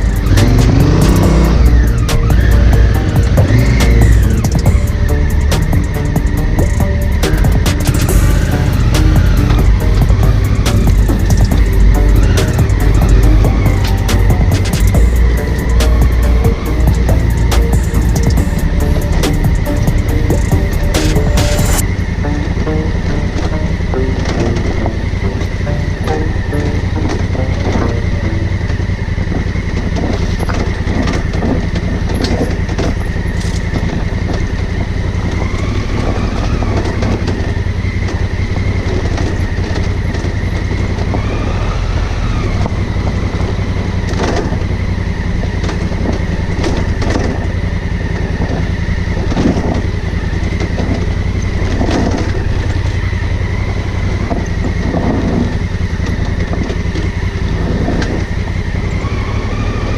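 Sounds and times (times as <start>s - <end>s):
heavy road noise rumble: 0.0s - 59.9s
motorcycle engine running: 0.0s - 59.9s.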